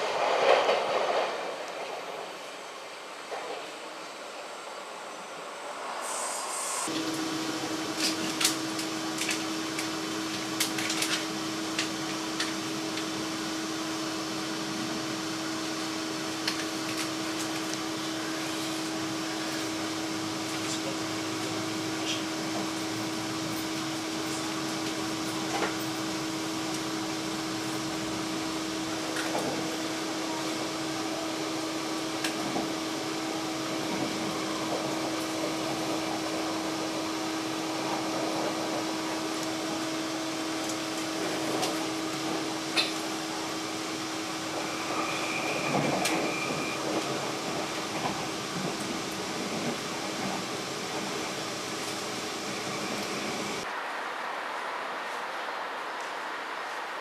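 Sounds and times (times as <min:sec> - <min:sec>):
electric train humming and rushing: 0:00.0 - 0:57.0.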